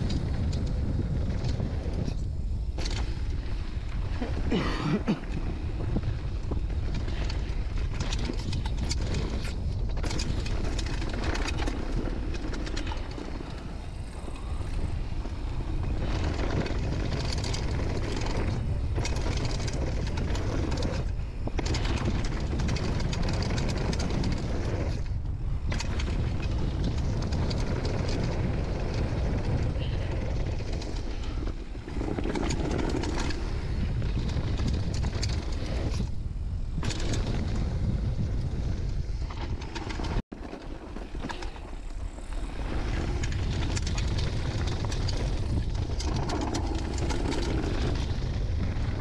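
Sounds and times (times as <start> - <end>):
bike rattling: 0.0 - 49.0
wind buffeting microphone: 0.0 - 49.0.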